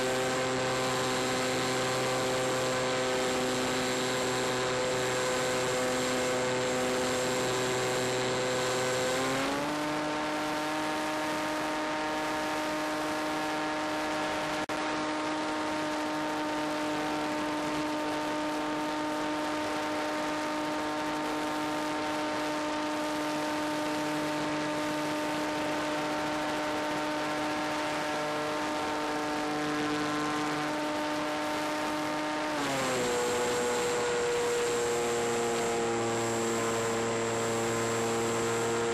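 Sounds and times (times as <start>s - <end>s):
electric motor and propeller whining: 0.0s - 38.9s.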